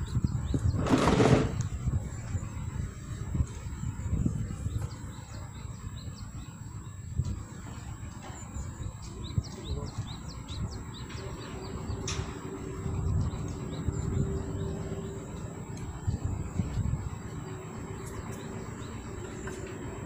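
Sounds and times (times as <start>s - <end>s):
small birds chirping: 0.0s - 20.0s
wind buffeting microphone: 0.0s - 20.0s.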